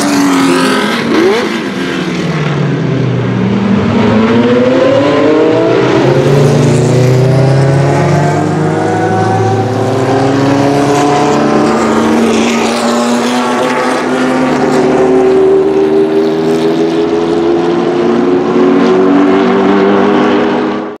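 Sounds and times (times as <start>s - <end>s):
racing car engine at full throttle: 0.0s - 21.0s.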